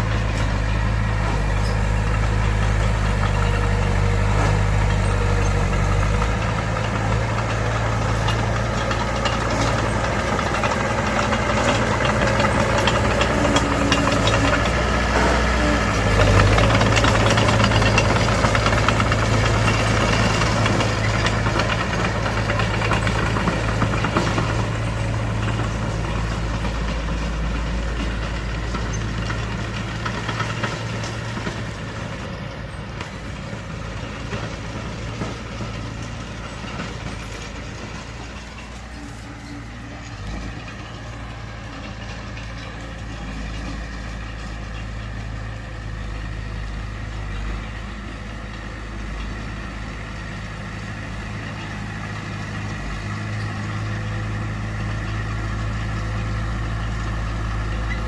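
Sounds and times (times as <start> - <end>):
bulldozer diesel engine running: 0.0 - 58.0
clatter: 0.0 - 58.0.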